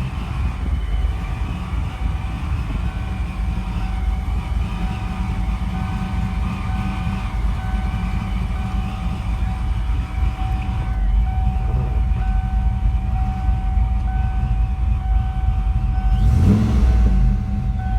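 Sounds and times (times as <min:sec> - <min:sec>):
engine rumbling: 0:00.0 - 0:17.9.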